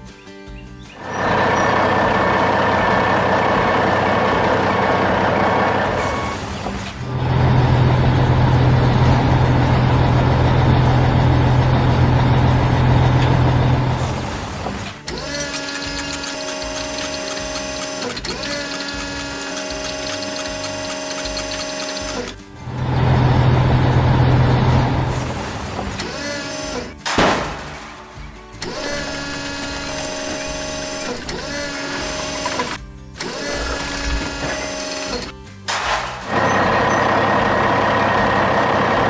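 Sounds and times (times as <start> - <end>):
heavy machine engine running: 0.9 - 39.0.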